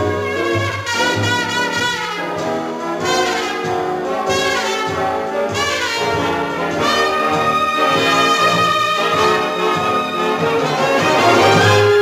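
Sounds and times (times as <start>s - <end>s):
jazzy brass-led orchestra: 0.0s - 12.0s.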